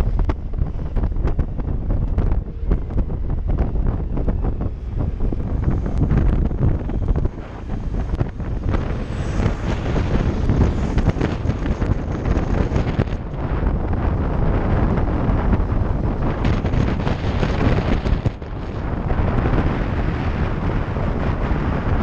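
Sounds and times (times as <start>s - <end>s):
road and traffic noise: 0.0s - 22.0s
wind buffeting microphone: 0.0s - 22.0s.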